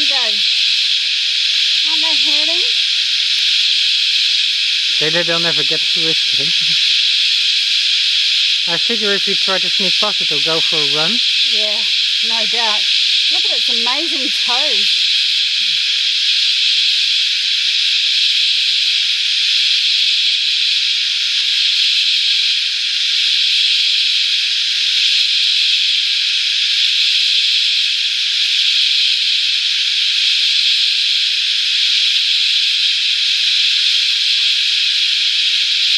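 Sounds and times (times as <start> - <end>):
cicadas droning: 0.0 - 35.9.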